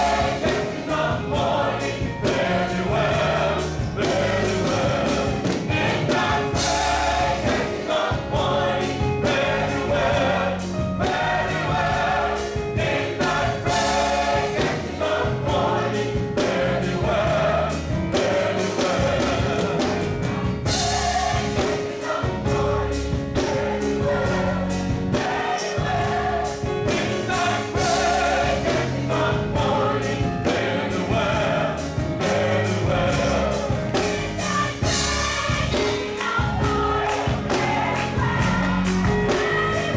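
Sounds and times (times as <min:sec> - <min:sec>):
band playing: 0:00.0 - 0:39.9
drums keeping steady beat: 0:00.0 - 0:39.9
gospel choir singing: 0:00.0 - 0:39.9.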